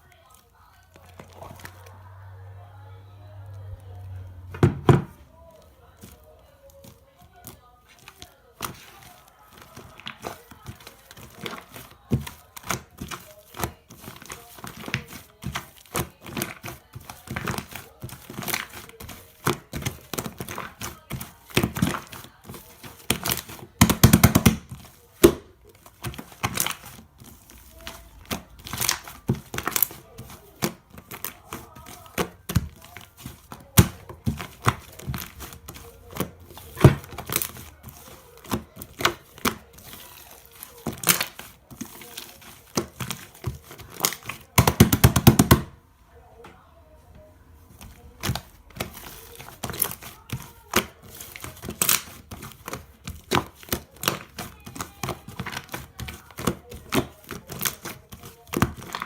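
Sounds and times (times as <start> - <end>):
crinkling and crackling: 0.0 - 2.6, 3.3 - 45.7, 47.6 - 59.0.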